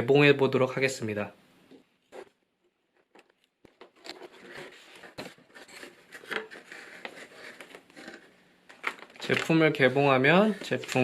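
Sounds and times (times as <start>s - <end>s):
packaging scraping and rustling: 2.1s - 11.0s.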